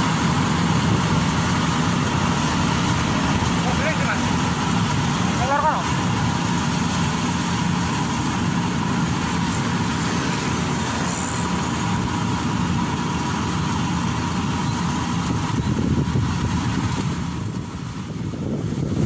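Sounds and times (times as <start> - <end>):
combine harvester engine drone: 0.0 - 19.0
high whine: 0.0 - 19.0.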